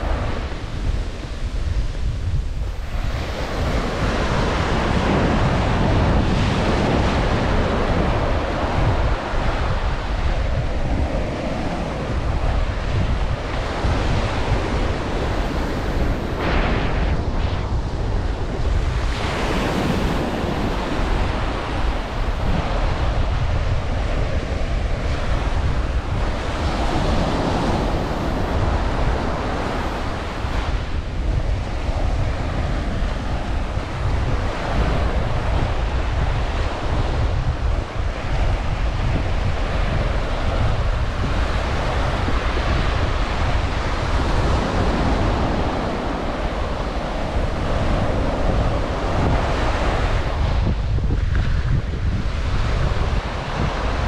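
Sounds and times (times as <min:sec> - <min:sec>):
ocean surf washing onto beach: 0:00.0 - 0:54.0
wind buffeting microphone: 0:00.0 - 0:54.0.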